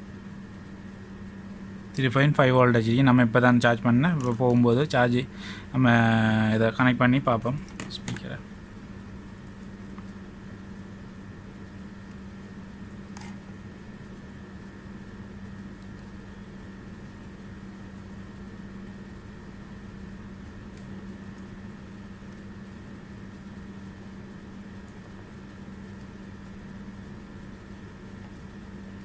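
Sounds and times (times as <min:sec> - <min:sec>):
appliance humming: 0:00.0 - 0:29.0.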